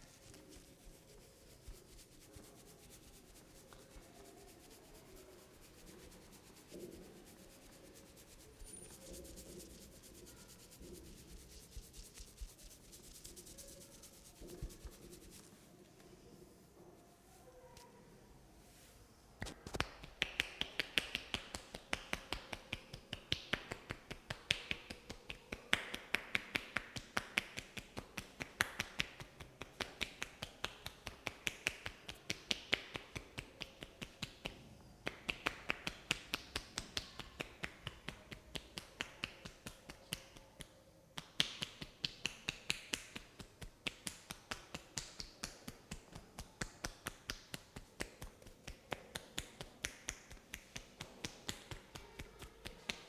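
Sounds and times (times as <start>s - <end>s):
hands tapping on a head: 2.2s - 15.4s, 19.4s - 53.0s.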